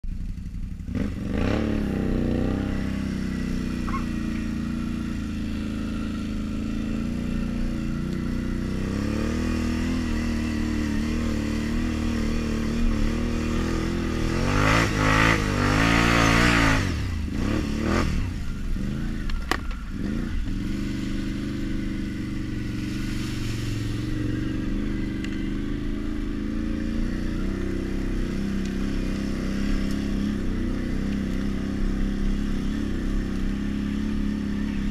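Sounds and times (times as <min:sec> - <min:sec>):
atv engine revving: 0:00.1 - 0:34.9.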